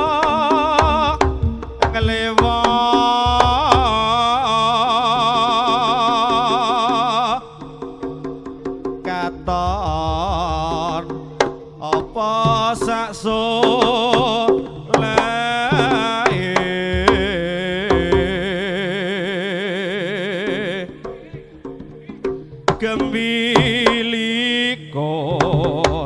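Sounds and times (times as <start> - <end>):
drum strokes: 0.0 - 18.9, 20.4 - 24.4, 25.3 - 26.0.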